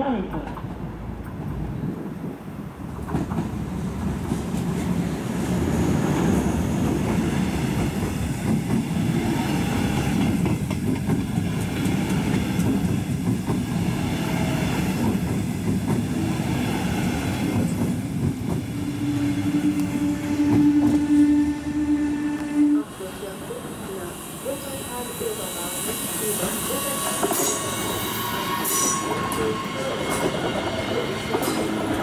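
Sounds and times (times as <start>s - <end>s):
train wheels on rails: 0.3s - 32.0s.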